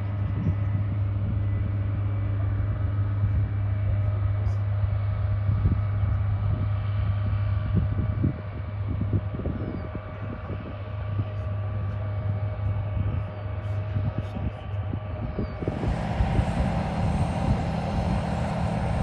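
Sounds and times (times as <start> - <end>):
engines droning with whine: 0.0 - 19.0.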